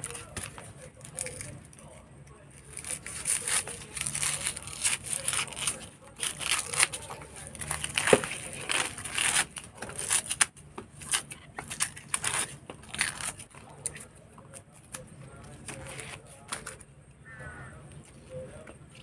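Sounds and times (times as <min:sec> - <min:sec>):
dry husks crackling and tearing: 0:00.0 - 0:19.0.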